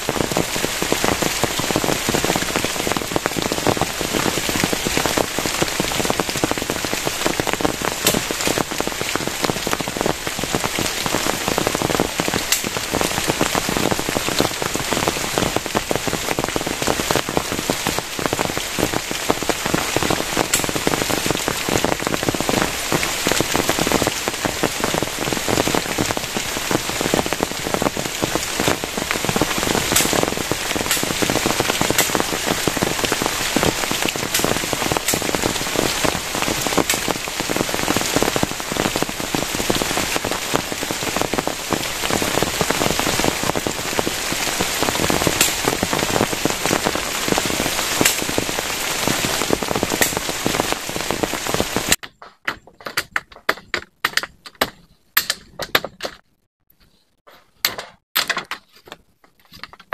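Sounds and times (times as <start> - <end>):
heavy rain: 0.0 - 52.0
raindrops ticking close by: 0.0 - 56.4.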